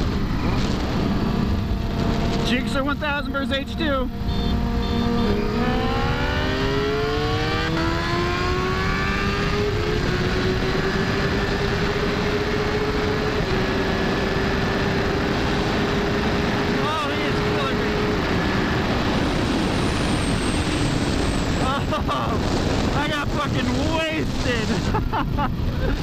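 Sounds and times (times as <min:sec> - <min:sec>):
motorcycle engine revving hard: 0:00.0 - 0:24.8
wind rush on microphone: 0:00.0 - 0:26.0.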